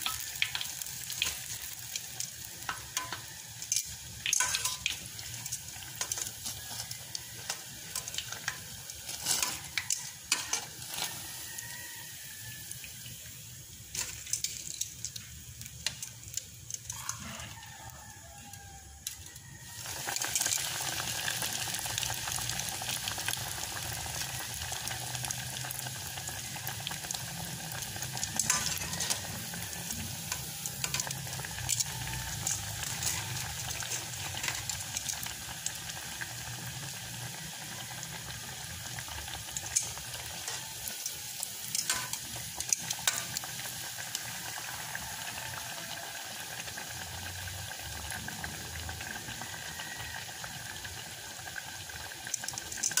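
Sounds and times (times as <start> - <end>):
food deep-frying in hot oil: 0.0 - 53.0.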